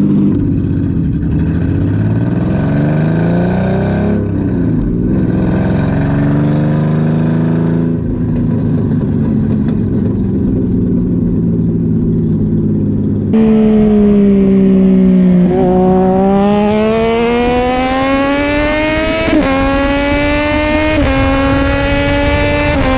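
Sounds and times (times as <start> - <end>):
car engine running: 0.0 - 3.7, 7.8 - 22.9
car accelerating: 0.0 - 22.9.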